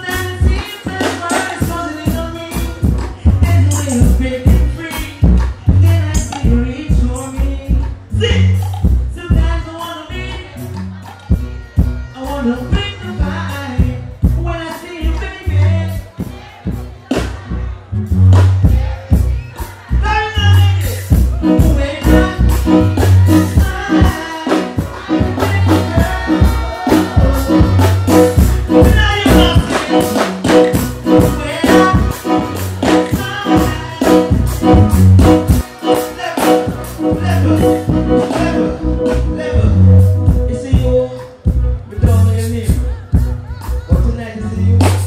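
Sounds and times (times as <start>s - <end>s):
man singing into microphone: 0.0s - 16.8s, 18.6s - 45.0s
loud live music over pa: 0.0s - 45.0s.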